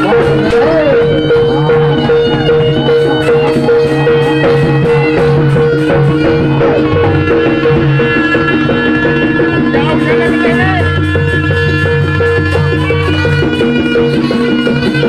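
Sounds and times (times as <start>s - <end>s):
hand drum beat: 0.0s - 15.0s
metal percussion: 0.0s - 15.0s.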